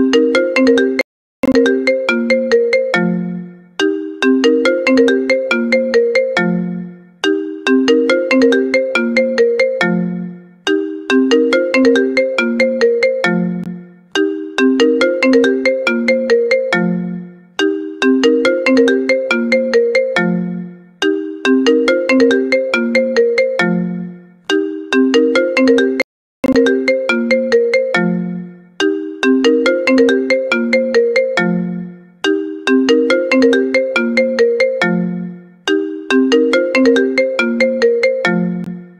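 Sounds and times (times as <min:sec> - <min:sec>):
a cappella ringtone melody: 0:00.0 - 0:38.9.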